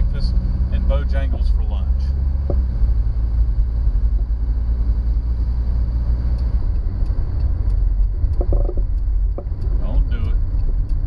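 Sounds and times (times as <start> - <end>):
diesel car engine running: 0.0 - 11.0
road and wind noise: 0.0 - 11.0.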